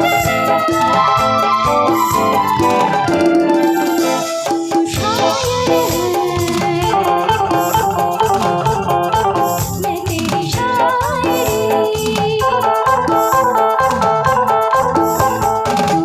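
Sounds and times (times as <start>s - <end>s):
keyboard: 0.0s - 16.0s
live band playing instrumental: 0.0s - 16.0s
percussion beat: 0.0s - 16.0s.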